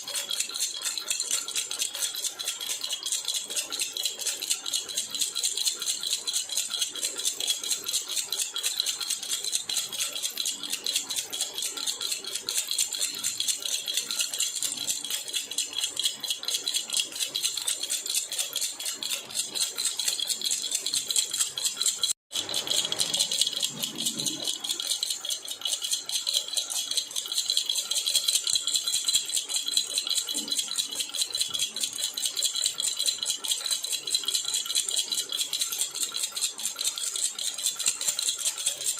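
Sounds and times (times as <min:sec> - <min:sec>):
metal baby rattle jingling: 0:00.0 - 0:38.9.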